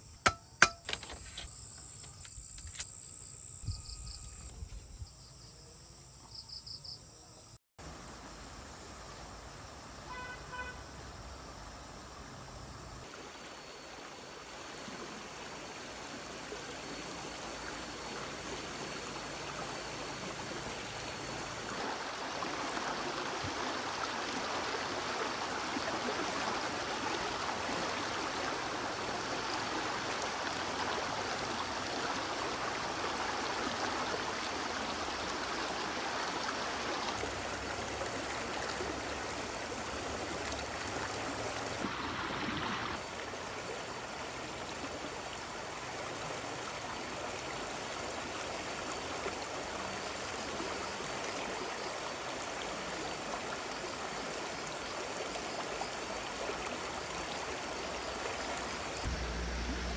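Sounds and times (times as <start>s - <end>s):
stream water running over rocks: 11.8s - 59.9s.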